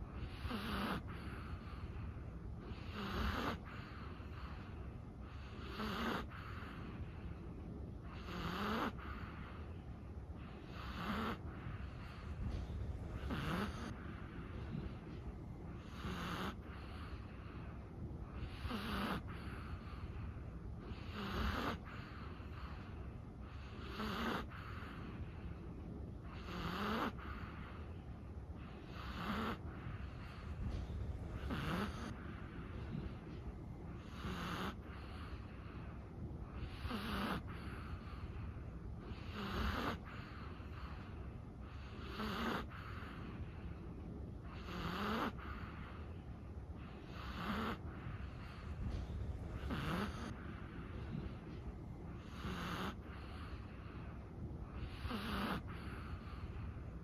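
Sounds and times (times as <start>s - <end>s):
dog snoring softly: 0.0s - 57.0s.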